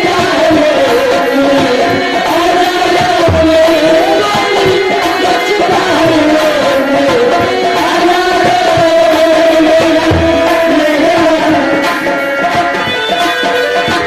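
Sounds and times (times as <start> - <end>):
person singing: 0.0 - 14.0
tabla drumming: 0.0 - 14.0.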